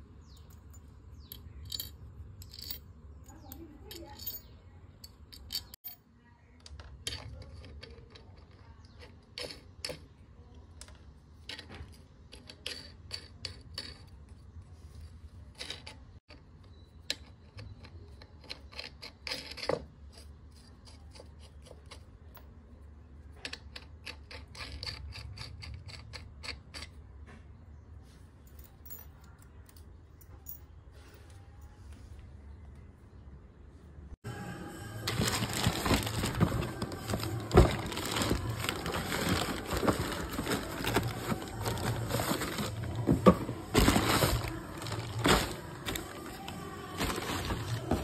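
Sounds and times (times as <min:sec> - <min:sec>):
metal washers and nuts clinking: 0:00.1 - 0:10.2, 0:10.8 - 0:27.2, 0:28.4 - 0:31.7, 0:35.1 - 0:48.0.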